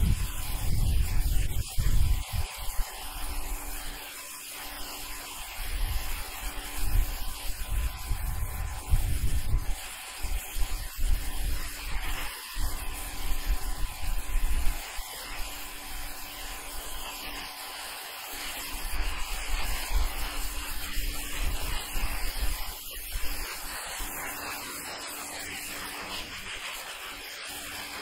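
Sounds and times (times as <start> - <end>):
pressure washer spray hissing: 0.0 - 28.0.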